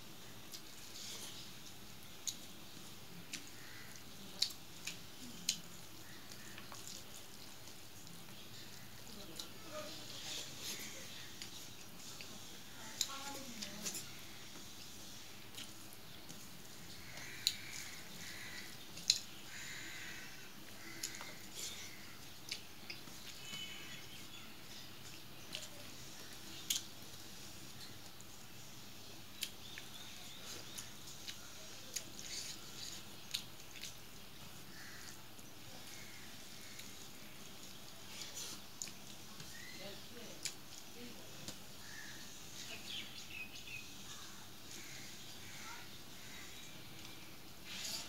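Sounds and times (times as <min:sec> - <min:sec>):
wet sticky clicks of hand mixing rice: 0:00.0 - 0:48.0
chewing: 0:00.2 - 0:28.7, 0:29.3 - 0:39.7.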